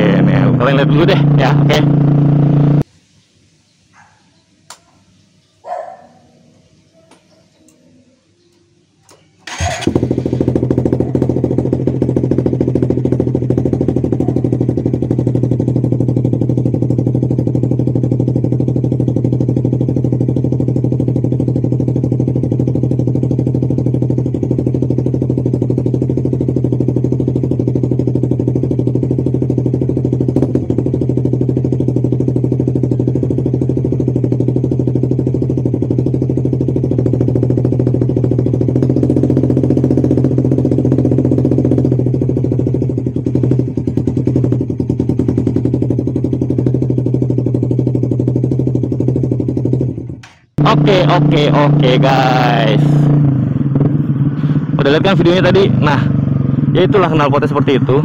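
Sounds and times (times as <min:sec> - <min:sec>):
motorcycle engine starting and idling: 0:00.0 - 0:02.9, 0:07.1 - 0:58.0.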